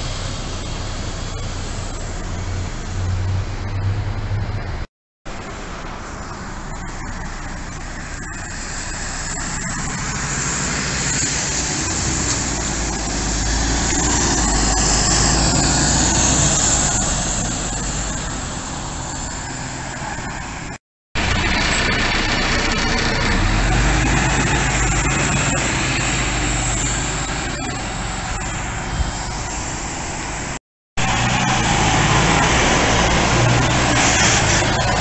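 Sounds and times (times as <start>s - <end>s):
bus driving past: 0.0s - 35.0s.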